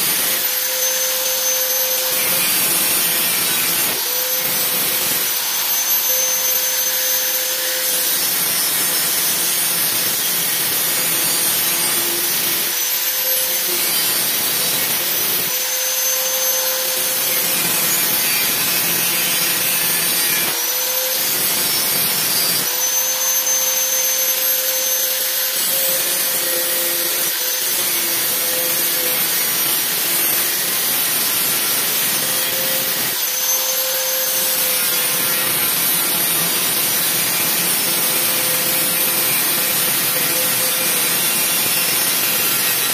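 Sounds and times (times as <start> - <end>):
small electric motor running: 0.0 - 42.9.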